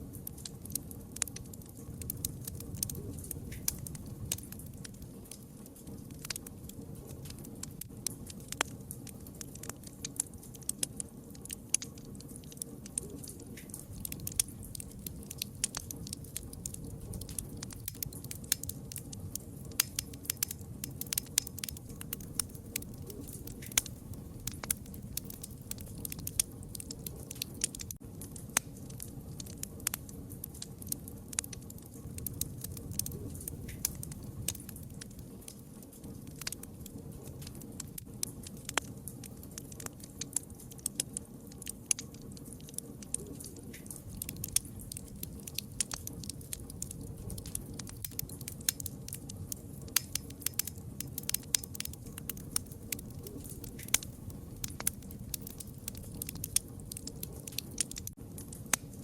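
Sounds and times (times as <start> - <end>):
low fire rumble: 0.0 - 59.0
wood fire pops and snaps: 0.0 - 59.0.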